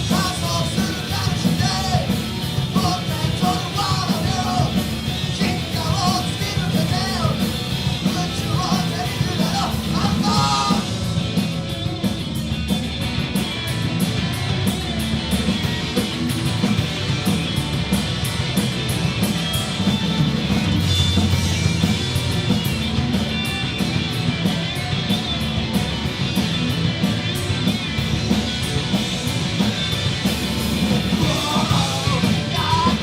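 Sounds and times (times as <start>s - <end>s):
rock band playing instrumental: 0.0s - 33.0s.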